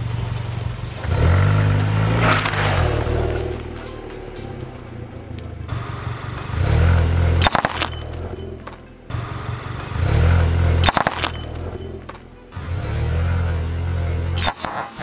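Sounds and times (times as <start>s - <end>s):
light bulbs bursting: 0.0s - 13.0s
car engine and tyre rumble: 0.0s - 15.0s.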